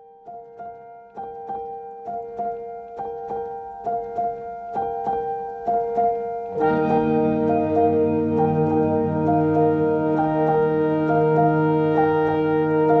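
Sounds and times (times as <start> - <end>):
gentle piano melody: 0.0 - 13.0
low sustained piano chords: 0.0 - 13.0.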